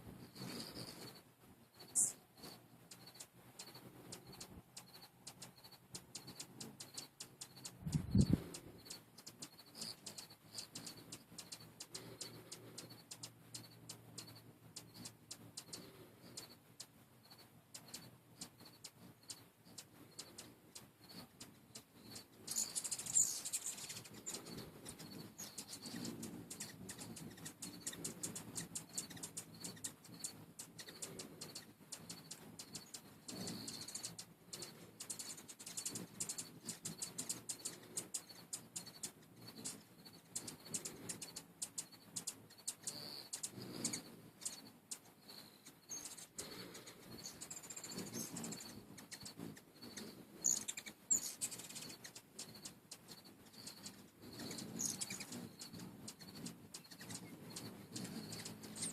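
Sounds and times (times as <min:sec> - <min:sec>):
hummingbird wing hum: 0:00.0 - 0:58.9
rapid twittering chatter: 0:00.2 - 0:58.9
hummingbird chip notes: 0:02.9 - 0:58.9.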